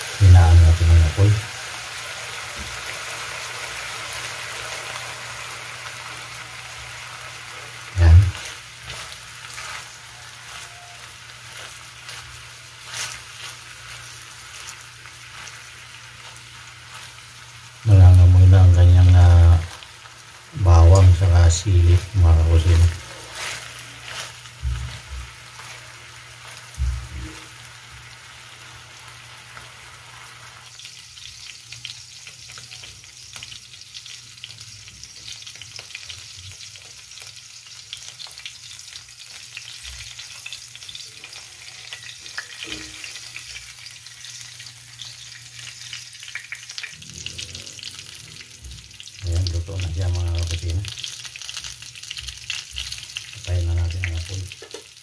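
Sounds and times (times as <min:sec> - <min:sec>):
sausages sizzling in a pan: 0:00.0 - 0:55.0.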